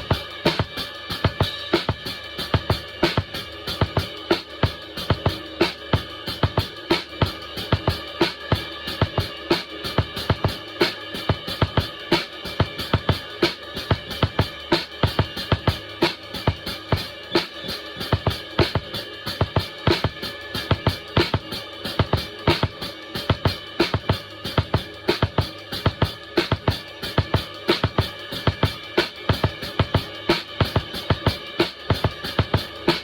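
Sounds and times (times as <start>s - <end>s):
drum kit groove: 0.0s - 33.0s
ringing cymbal wash: 0.0s - 33.0s.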